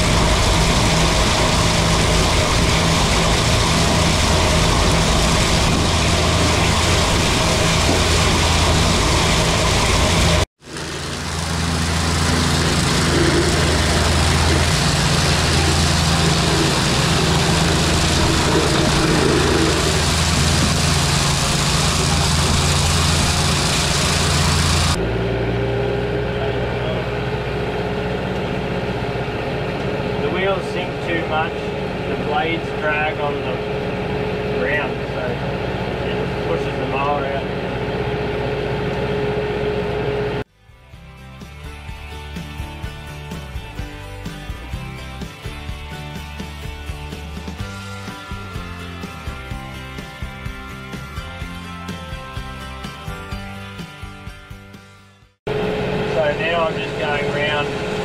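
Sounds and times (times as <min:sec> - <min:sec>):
tractor engine and mower running: 0:00.0 - 0:54.9, 0:55.5 - 0:58.0.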